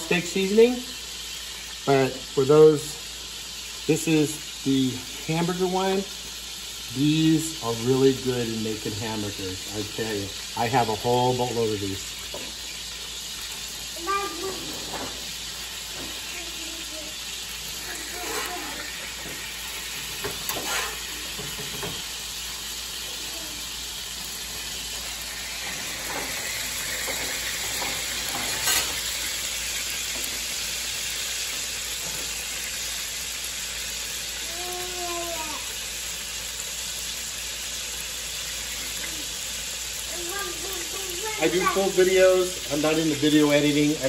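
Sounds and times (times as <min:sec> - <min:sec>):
burger patties sizzling in a skillet: 0:00.0 - 0:44.0.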